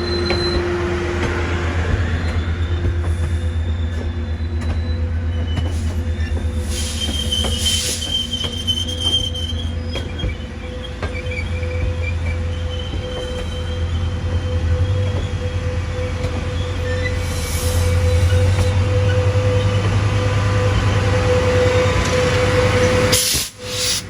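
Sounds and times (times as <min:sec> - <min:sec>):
high wheel squeal: 0:00.0 - 0:24.0
train rumbling along track: 0:00.0 - 0:24.0.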